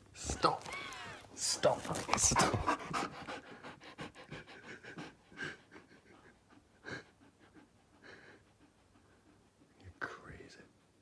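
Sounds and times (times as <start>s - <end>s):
dog panting: 1.9s - 11.0s.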